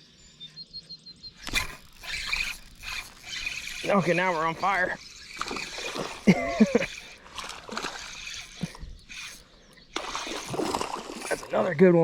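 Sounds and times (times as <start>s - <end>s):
creek water splashing: 1.4s - 11.8s.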